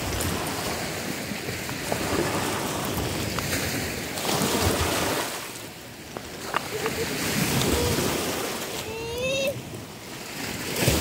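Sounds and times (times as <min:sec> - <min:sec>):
small waves breaking on shore: 0:00.0 - 0:11.0.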